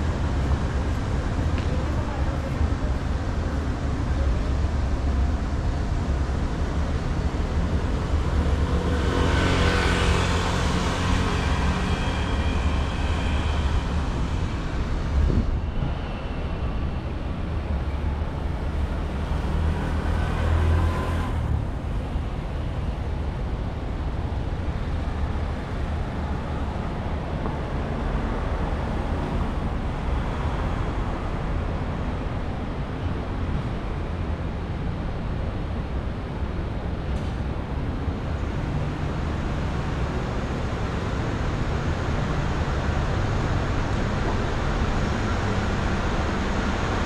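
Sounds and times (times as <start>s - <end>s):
vehicles passing on street: 0.0s - 47.0s.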